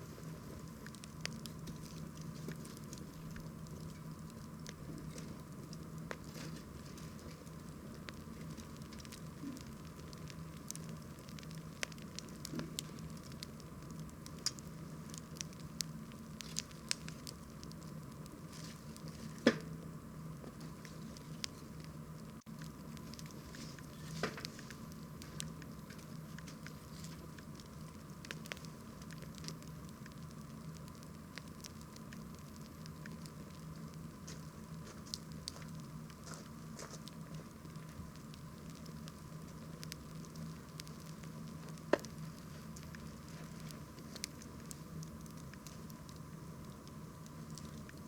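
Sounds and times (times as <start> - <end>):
wood crackling and popping: 0.0 - 48.0.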